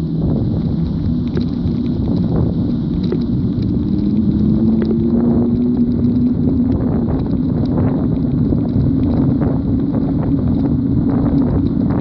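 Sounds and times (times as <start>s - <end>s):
low road rumble: 0.0s - 12.0s
wind buffeting microphone: 0.0s - 12.0s.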